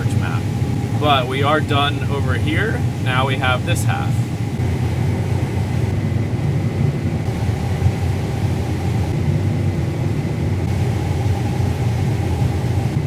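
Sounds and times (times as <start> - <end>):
combine harvester drone: 0.0 - 13.0.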